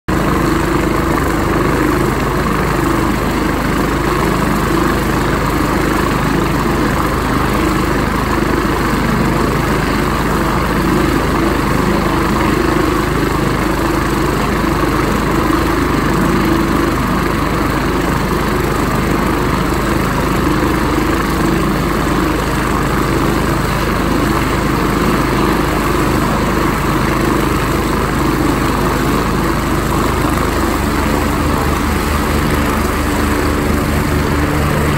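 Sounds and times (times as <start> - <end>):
helicopter engines and rotor running: 0.1 - 34.9.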